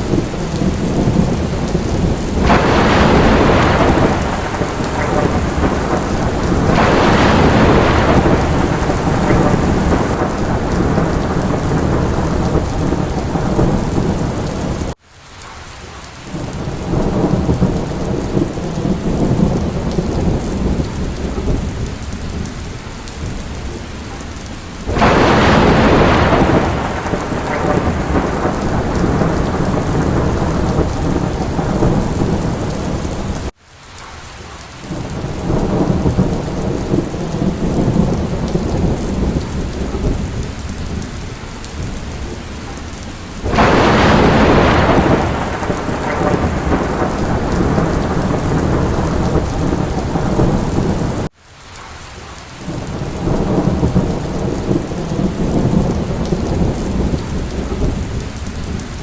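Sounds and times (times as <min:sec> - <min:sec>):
thunder rumbling: 0:00.0 - 0:15.0, 0:16.3 - 0:33.5, 0:34.9 - 0:51.3, 0:52.6 - 0:59.0
heavy rain: 0:00.0 - 0:59.0.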